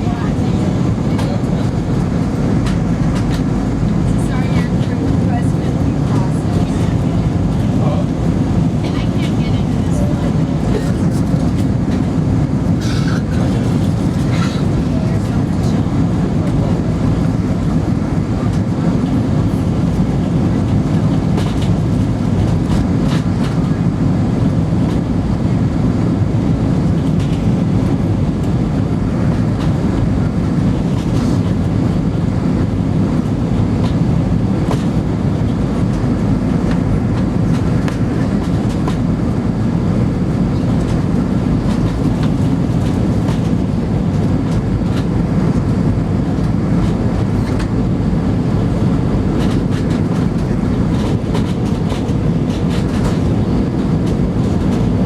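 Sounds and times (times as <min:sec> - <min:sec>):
aircraft cabin rumble: 0:00.0 - 0:55.0.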